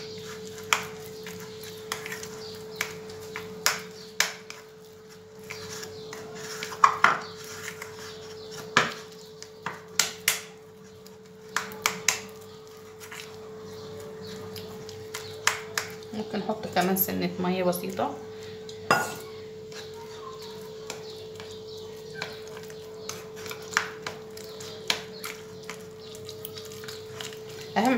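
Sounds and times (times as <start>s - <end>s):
hands kneading dough in a bowl: 0.0s - 27.9s.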